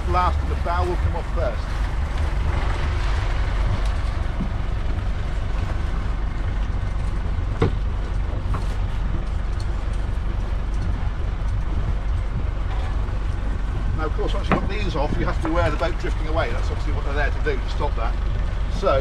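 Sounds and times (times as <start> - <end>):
motor boat engine idling: 0.0 - 19.0.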